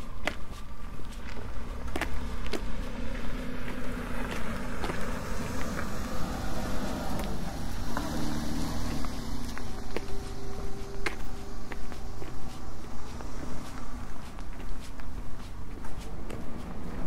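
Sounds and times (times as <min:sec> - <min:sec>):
footsteps clicking: 0:00.0 - 0:06.0, 0:06.6 - 0:17.0
vehicle engine running: 0:00.8 - 0:17.0.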